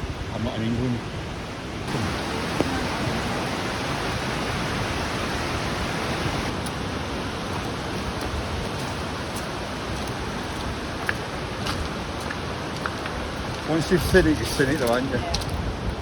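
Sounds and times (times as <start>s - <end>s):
waterfall rushing: 1.8s - 15.5s.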